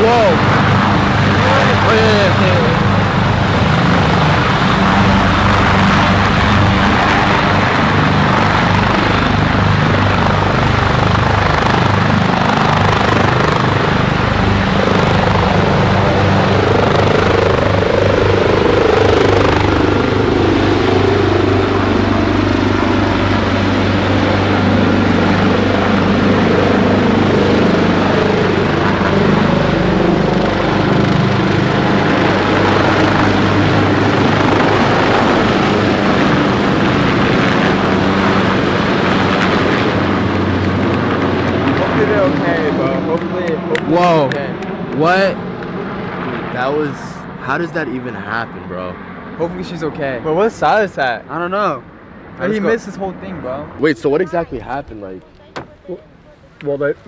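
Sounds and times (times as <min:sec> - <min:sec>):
helicopter rotor noise: 0:00.0 - 0:57.0.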